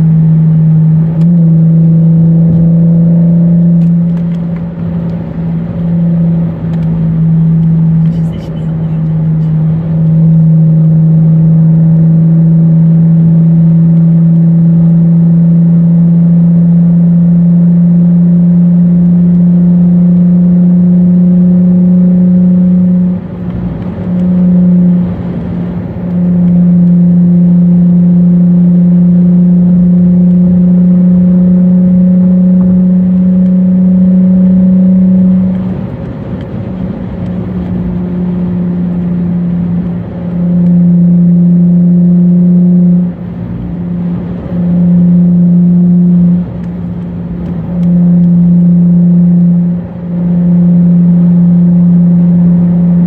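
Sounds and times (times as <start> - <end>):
car engine droning from inside cabin: 0.0 - 53.0.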